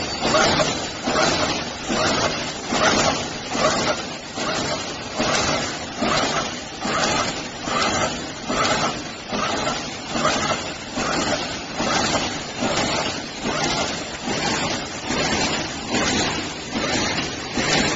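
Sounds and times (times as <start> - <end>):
welding machine strokes: 0.0 - 17.9.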